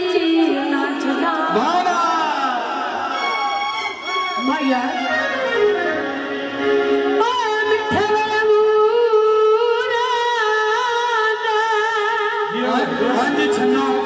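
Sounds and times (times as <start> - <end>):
background music: 0.0 - 10.0, 12.5 - 14.0.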